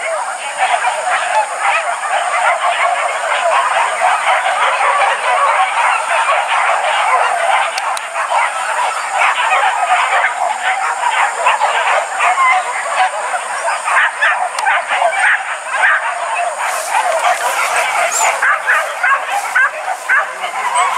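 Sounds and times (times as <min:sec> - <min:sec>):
dogs barking and yelping: 0:00.0 - 0:20.9.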